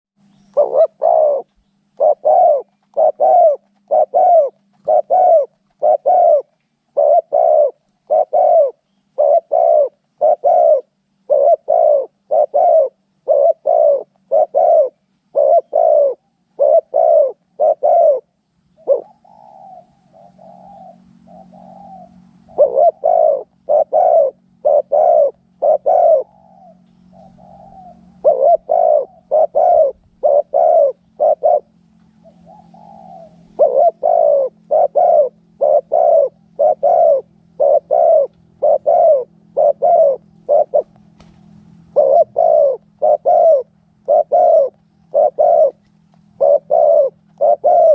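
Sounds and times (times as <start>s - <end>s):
doves cooing loudly: 0.5s - 47.9s.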